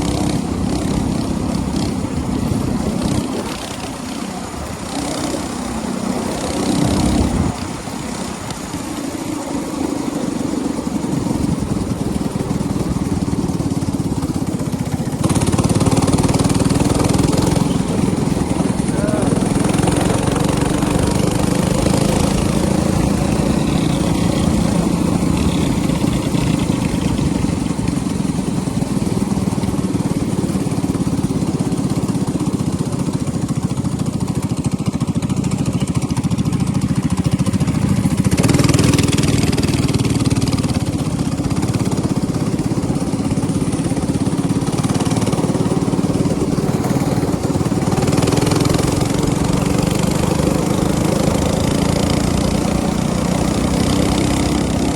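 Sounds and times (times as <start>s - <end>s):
minibike engine running: 0.0s - 54.9s.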